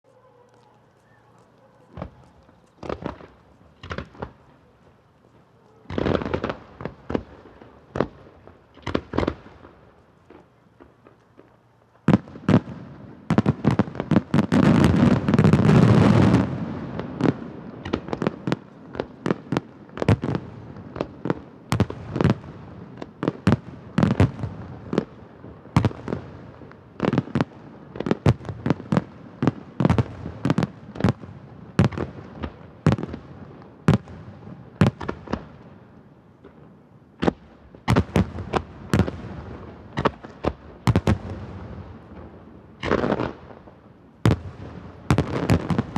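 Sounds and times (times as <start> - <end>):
fireworks booms: 1.9 - 4.5, 5.8 - 9.9, 10.8 - 35.6, 37.2 - 45.9.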